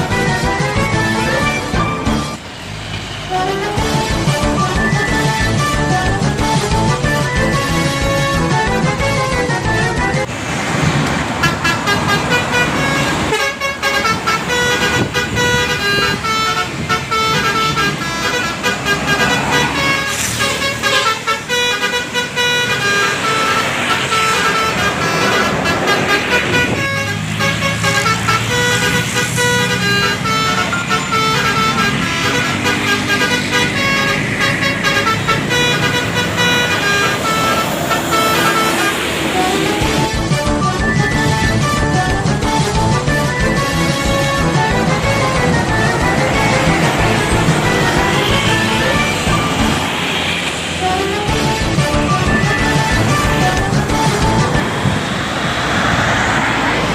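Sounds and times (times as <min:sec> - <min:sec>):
multi-tone bus horns playing tunes: 0:00.0 - 0:10.4, 0:11.0 - 0:56.9
low vehicle rumble: 0:00.0 - 0:56.9.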